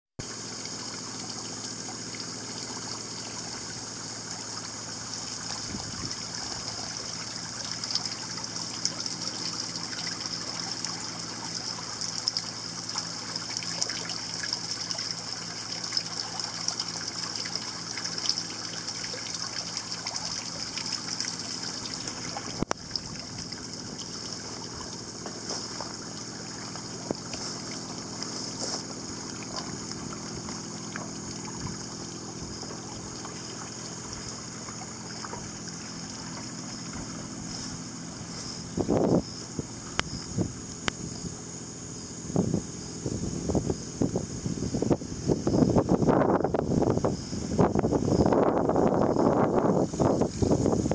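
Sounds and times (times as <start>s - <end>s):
small water splashes: 0.2s - 41.2s
water trickling and running: 0.2s - 50.9s.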